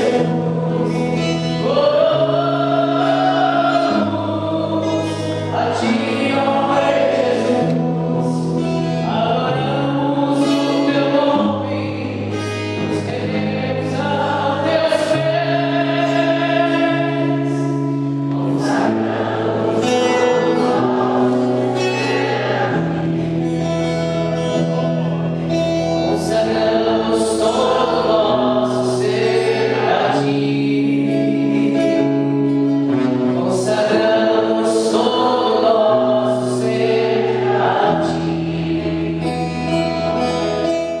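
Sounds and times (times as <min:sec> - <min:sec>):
man singing: 0:00.0 - 0:19.0, 0:19.6 - 0:41.0
acoustic guitar: 0:00.0 - 0:41.0.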